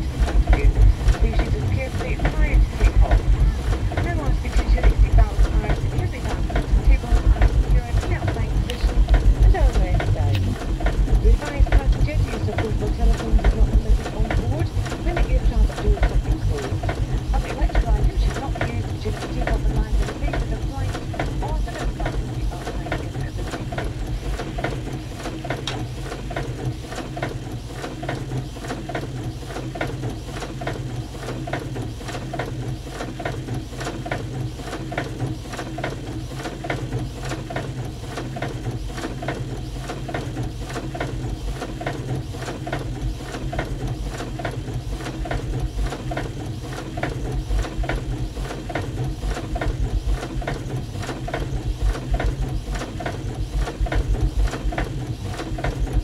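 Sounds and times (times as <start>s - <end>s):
mechanical clatter of clicks: 0.0s - 56.0s
steady low hum: 0.0s - 56.0s.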